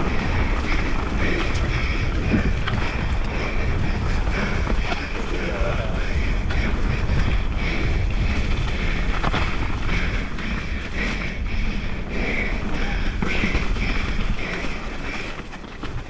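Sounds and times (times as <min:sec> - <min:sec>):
tyres rumbling on dirt trail: 0:00.0 - 0:16.0
wind buffeting microphone: 0:00.0 - 0:16.0.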